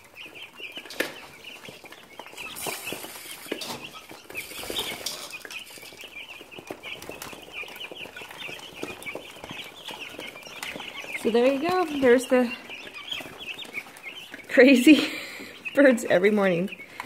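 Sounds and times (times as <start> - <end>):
chicks peeping and cheeping: 0.0 - 17.0
rustling: 0.0 - 17.0.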